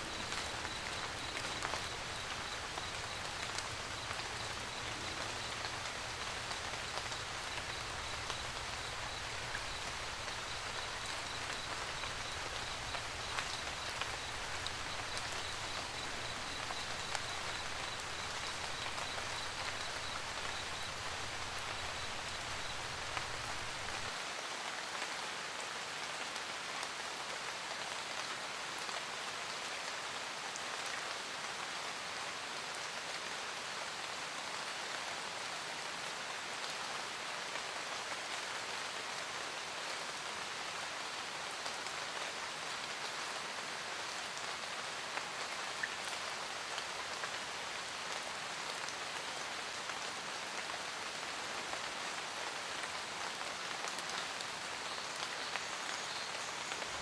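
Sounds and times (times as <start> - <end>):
rain pattering on a roof: 0.0 - 57.0.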